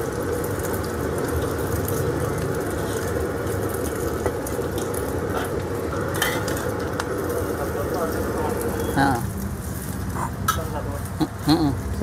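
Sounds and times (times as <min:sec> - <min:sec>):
egg frying in oil: 0:00.0 - 0:12.0
gas burner roaring: 0:00.0 - 0:12.0.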